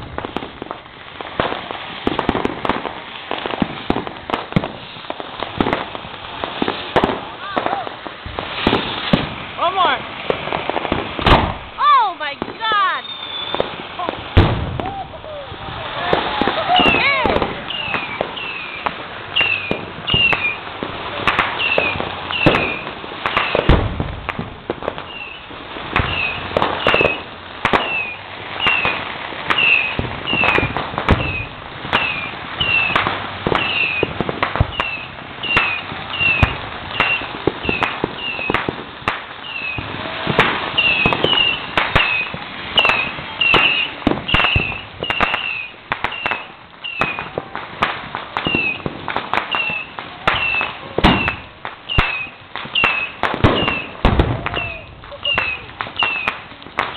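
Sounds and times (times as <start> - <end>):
firecrackers banging: 0.0 - 56.9.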